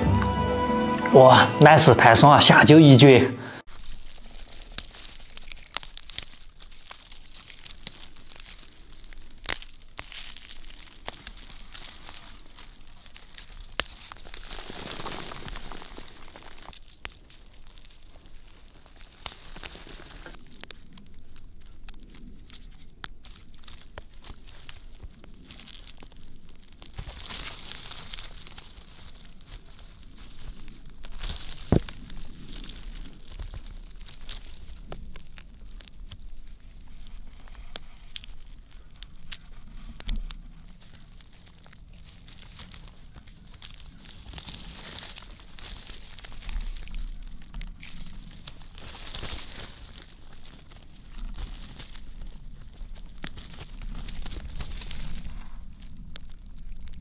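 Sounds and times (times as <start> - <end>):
roots crackling and tearing: 3.6 - 57.0
soil crumbling and trickling: 3.6 - 57.0
root snapping: 3.7 - 57.0.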